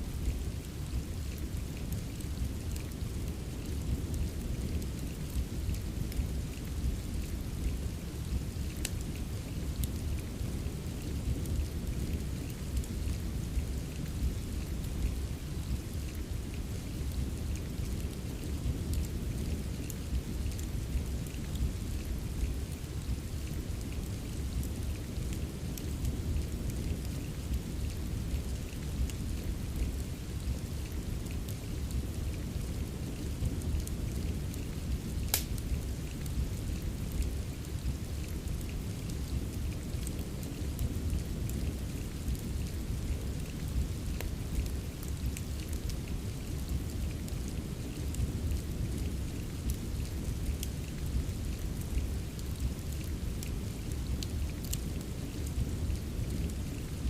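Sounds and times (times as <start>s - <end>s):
steady rain: 0.0s - 57.0s
fireplace crackling and popping: 0.1s - 57.0s.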